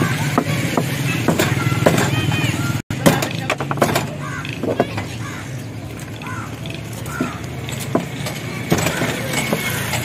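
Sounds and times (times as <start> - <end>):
low street hum: 0.0 - 10.0.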